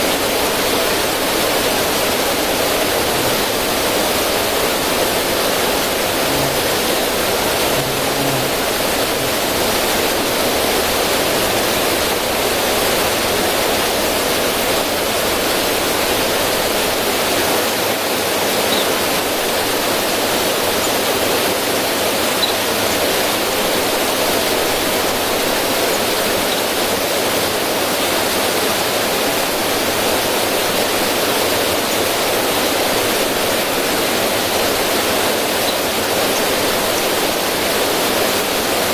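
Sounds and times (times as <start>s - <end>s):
river water splashing over rocks: 0.0s - 38.9s.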